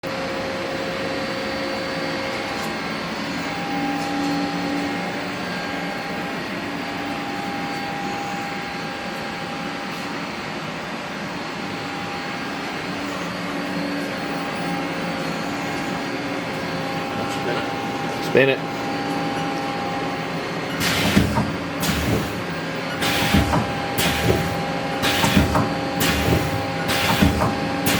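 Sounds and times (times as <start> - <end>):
machinery humming: 0.0 - 27.9.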